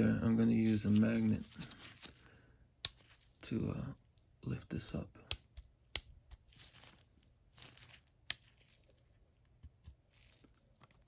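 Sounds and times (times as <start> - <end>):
gloves rustling: 0.3 - 3.7, 4.9 - 11.0.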